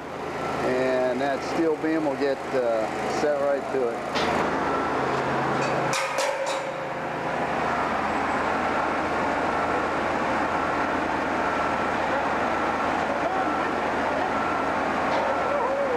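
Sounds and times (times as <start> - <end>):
heavy machinery droning: 0.0 - 15.9.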